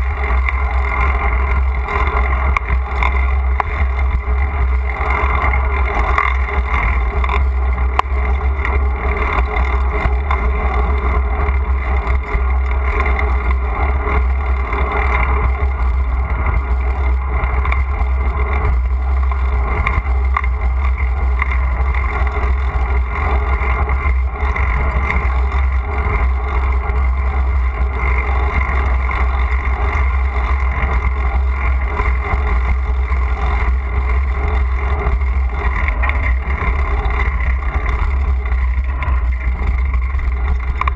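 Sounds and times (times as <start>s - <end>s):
bicycle road vibration: 0.0s - 40.9s
wind noise on camera: 0.0s - 40.9s.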